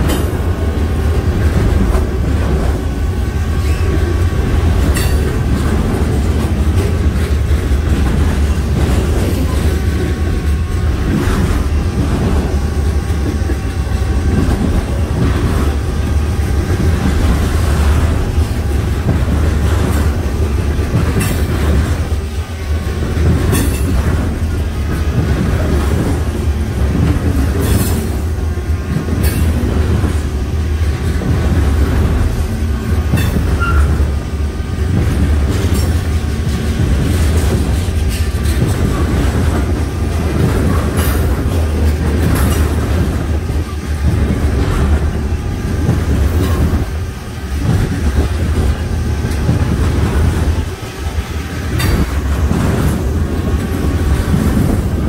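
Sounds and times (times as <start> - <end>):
freight train rumbling: 0.0 - 55.0
wheels clicking over rail joints: 3.6 - 28.3, 28.9 - 34.2, 34.9 - 55.0.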